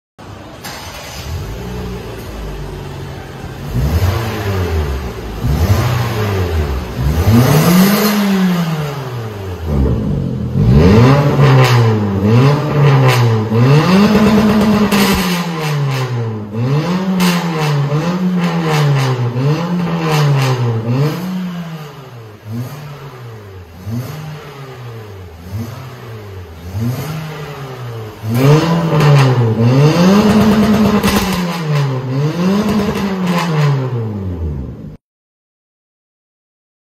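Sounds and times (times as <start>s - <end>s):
car engine revving through exhaust: 1.2s - 35.0s.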